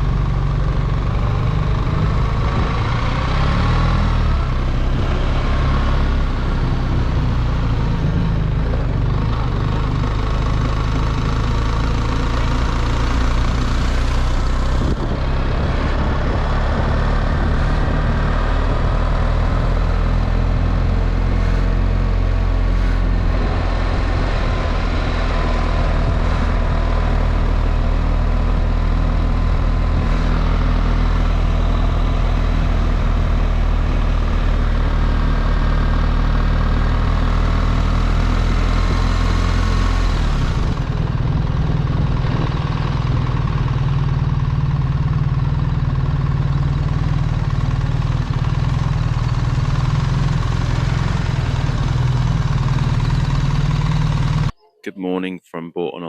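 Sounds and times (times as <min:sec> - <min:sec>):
motorcycle engine running: 0:00.0 - 0:38.2, 0:38.9 - 0:54.5.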